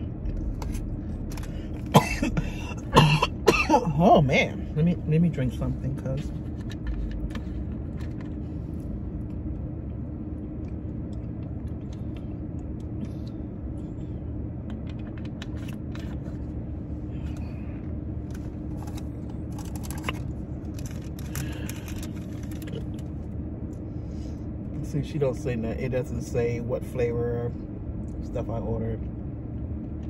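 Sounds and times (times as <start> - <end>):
car idling: 0.0 - 30.0.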